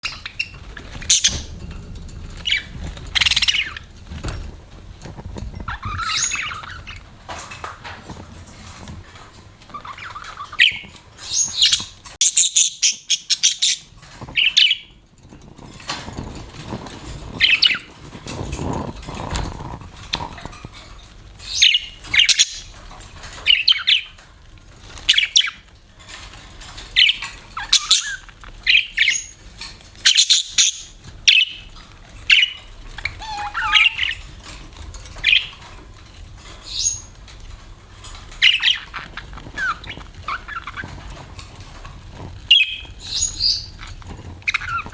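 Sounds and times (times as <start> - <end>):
budgerigars chirping and chattering: 0.0 - 1.6, 2.3 - 4.4, 5.1 - 8.0, 8.6 - 15.0, 15.9 - 35.8, 36.4 - 37.3, 38.0 - 44.9
low rustling noise: 0.0 - 12.2, 13.8 - 30.1, 33.9 - 44.9.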